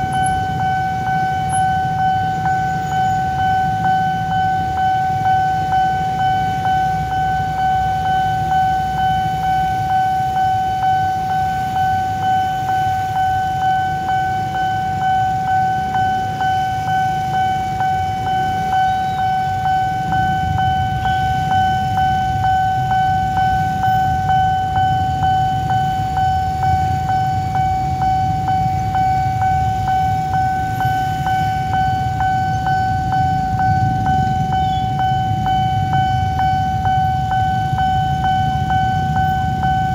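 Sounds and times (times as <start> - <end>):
level crossing alarm pulsing: 0.0 - 39.9
motorbike engines idling: 0.0 - 39.9.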